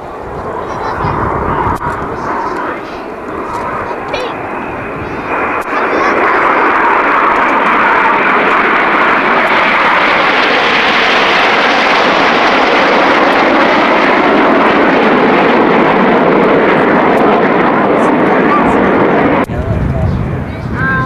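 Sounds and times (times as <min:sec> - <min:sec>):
jets flying overhead: 0:00.0 - 0:21.0.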